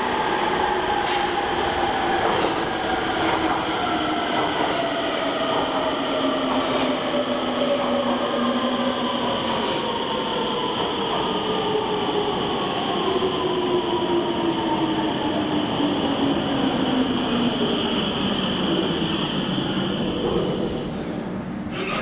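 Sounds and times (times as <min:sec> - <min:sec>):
train rolling on rails: 0:00.0 - 0:22.0.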